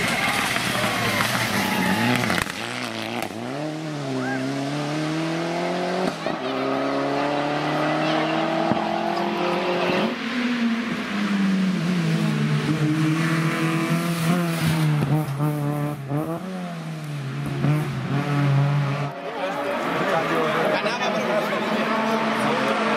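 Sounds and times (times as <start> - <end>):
rally car engine accelerating: 0.0 - 22.9.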